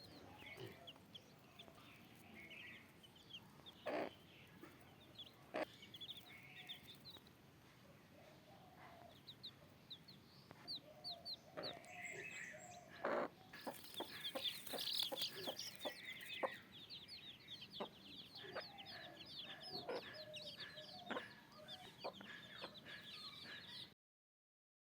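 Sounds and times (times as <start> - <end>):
chickens clucking: 0.0 - 7.3, 8.2 - 23.9.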